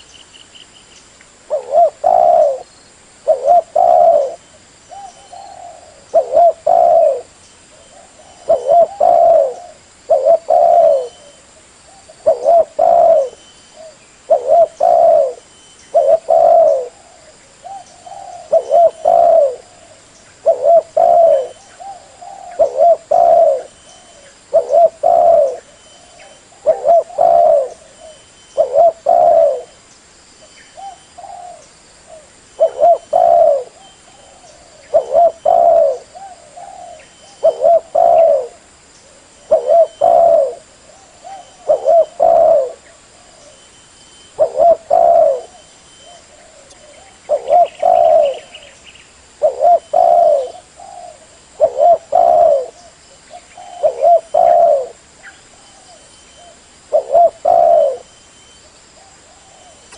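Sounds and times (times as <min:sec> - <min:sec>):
dove cooing: 0:01.5 - 0:29.8, 0:30.7 - 0:43.7, 0:44.3 - 0:48.8, 0:49.4 - 0:59.9.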